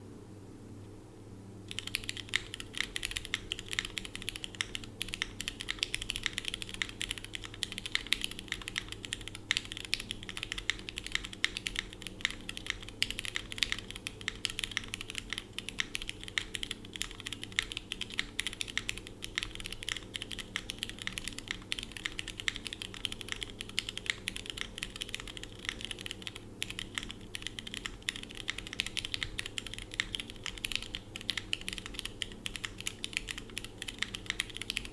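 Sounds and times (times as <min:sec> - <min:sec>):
fast mechanical keyboard typing: 0:01.7 - 0:34.9.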